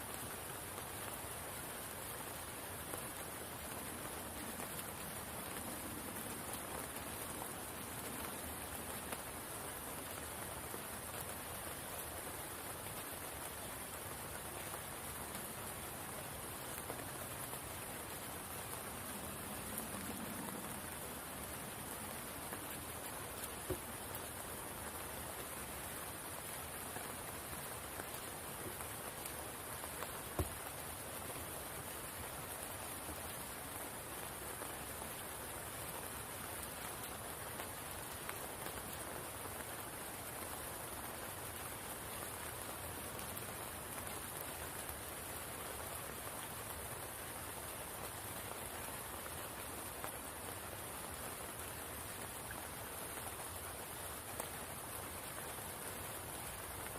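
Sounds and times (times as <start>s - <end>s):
rain falling on water: 0.0s - 56.9s.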